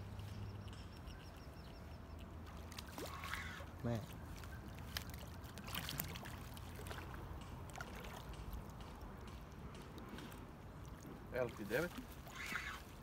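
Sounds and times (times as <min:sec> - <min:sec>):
fish splashing in water: 0:00.6 - 0:13.0.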